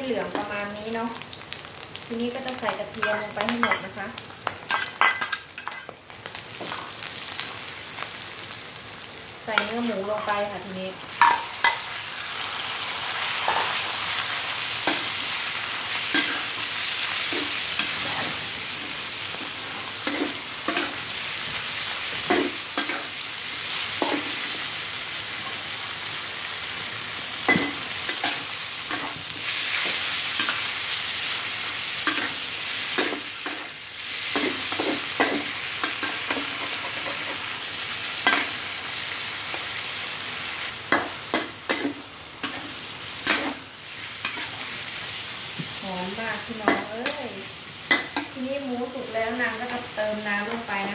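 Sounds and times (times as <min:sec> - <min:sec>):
meat sizzling in hot oil: 0:00.0 - 0:50.9.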